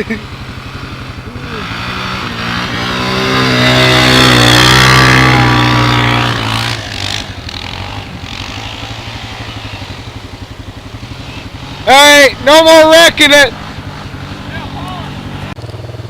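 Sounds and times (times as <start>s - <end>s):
atv engine revving past: 0.0s - 16.0s
four-wheeler engine idling: 0.0s - 16.0s.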